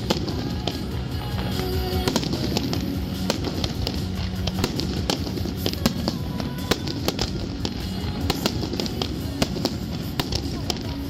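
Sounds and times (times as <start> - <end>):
fireworks bursting and crackling: 0.0 - 11.0
music playing: 0.0 - 11.0.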